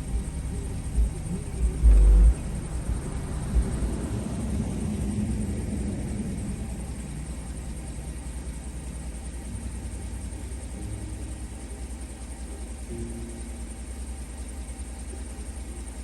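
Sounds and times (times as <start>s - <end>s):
subwoofer bass rumble: 0.0s - 16.0s.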